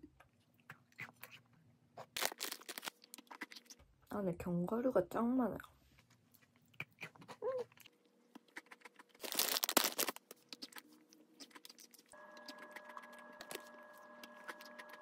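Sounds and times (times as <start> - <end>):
crunching crisp cookie: 0.6 - 3.8, 6.0 - 15.0.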